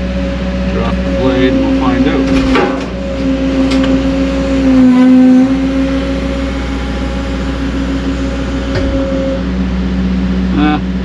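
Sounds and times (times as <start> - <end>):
excavator diesel engine running: 0.0 - 11.0
hydraulics working: 0.0 - 11.0.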